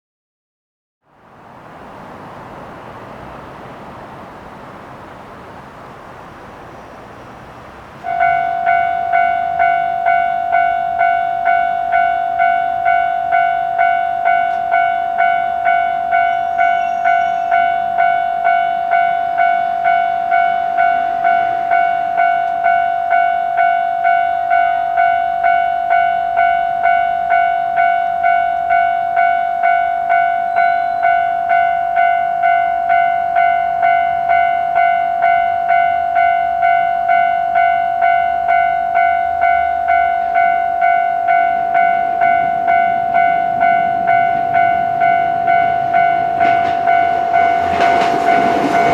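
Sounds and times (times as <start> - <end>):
level-crossing warning bell ringing: 8.0 - 48.9.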